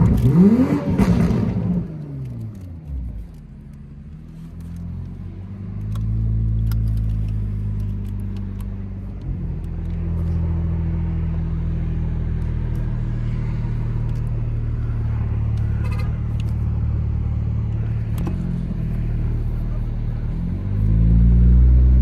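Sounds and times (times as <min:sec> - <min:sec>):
car engine and exhaust drone: 0:00.0 - 0:22.0.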